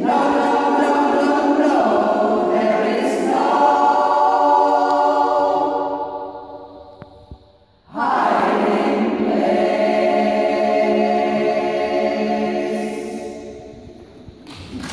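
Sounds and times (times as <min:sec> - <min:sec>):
choir singing a chord: 0:00.0 - 0:07.0, 0:07.9 - 0:14.0.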